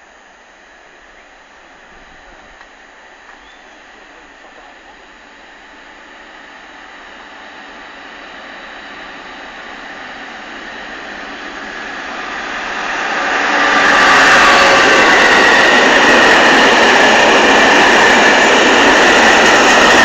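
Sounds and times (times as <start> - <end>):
diesel locomotive hauling freight train: 0.0 - 20.0.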